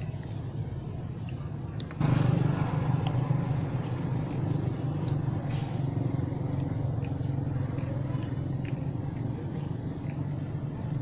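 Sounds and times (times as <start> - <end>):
motorbike engine idling: 0.0 - 11.0.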